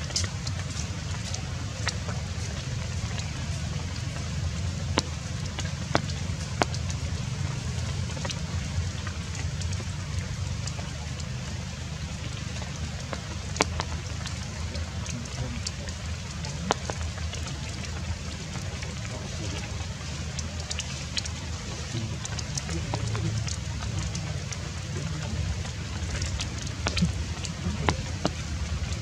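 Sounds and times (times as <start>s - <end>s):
raindrops ticking: 0.0s - 29.0s
steady low rumble: 0.0s - 29.0s.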